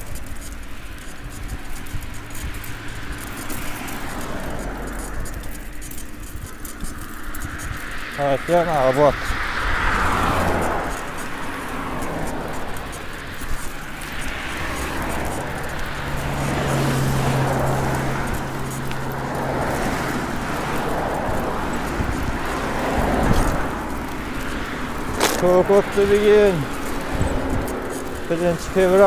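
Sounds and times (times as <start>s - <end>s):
cars passing on asphalt: 0.0s - 29.0s.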